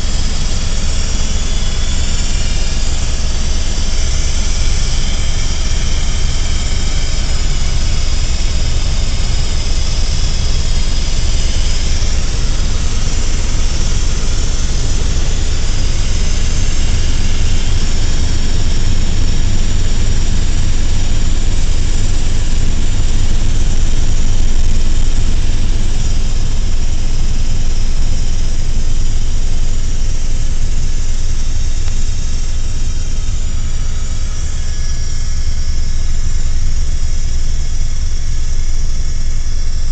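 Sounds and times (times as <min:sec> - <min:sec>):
helicopter turbine and rotor drone: 0:00.0 - 0:39.9.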